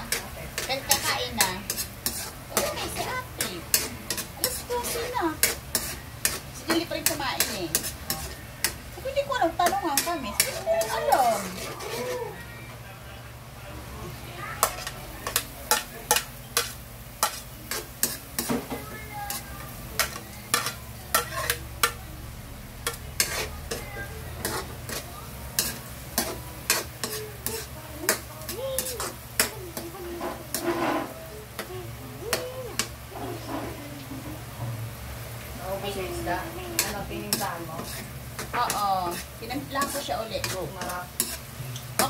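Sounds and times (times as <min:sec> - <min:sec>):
metal spatula scraping wok: 0:00.0 - 0:12.5, 0:14.6 - 0:31.7, 0:32.7 - 0:33.9, 0:35.8 - 0:42.0
vegetables sizzling: 0:00.0 - 0:42.0.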